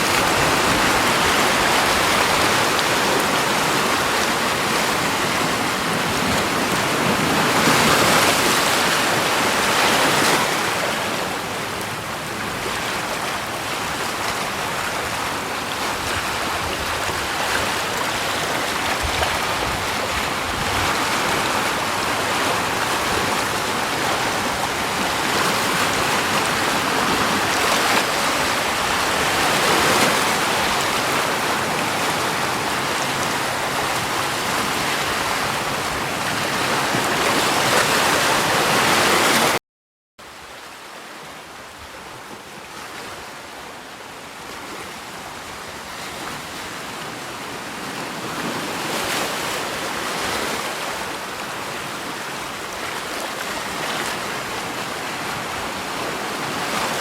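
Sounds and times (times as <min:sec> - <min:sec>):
rushing water: 0:00.0 - 0:39.6, 0:40.2 - 0:57.0.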